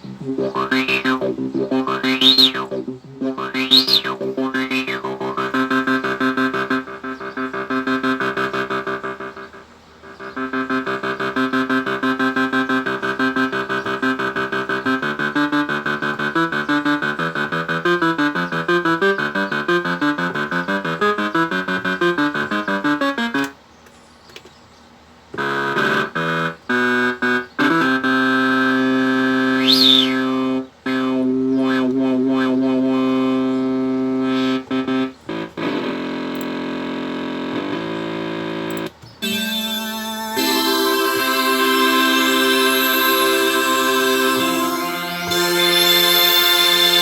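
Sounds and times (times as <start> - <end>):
synthesizer notes and chords: 0.0 - 23.6, 25.4 - 47.0.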